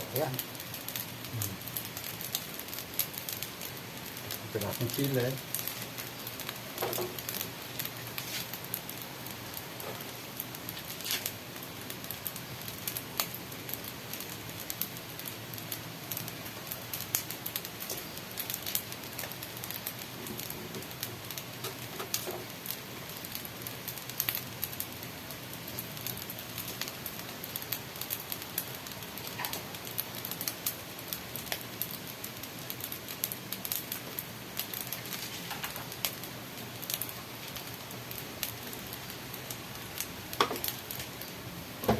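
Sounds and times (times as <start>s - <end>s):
chicken sizzling in a pan: 0.0s - 41.9s.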